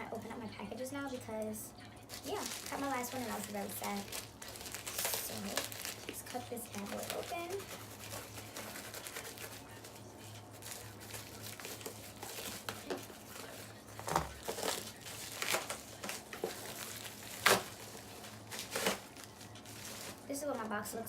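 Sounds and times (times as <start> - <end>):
cardboard box crinkling and tearing: 2.1 - 9.9, 10.6 - 20.3.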